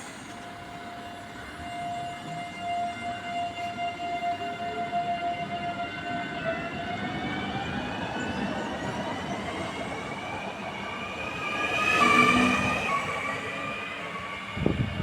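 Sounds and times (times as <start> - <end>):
train drive whine: 0.0 - 15.0.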